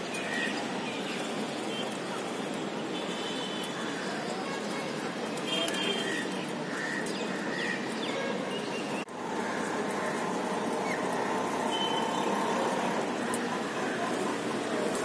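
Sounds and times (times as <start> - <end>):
city background noise: 0.0 - 15.0.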